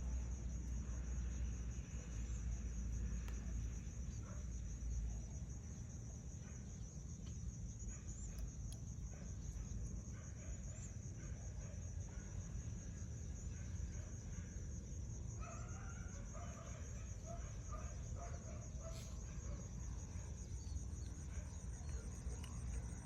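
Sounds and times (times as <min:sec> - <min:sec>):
insect trill: 0:00.0 - 0:23.0.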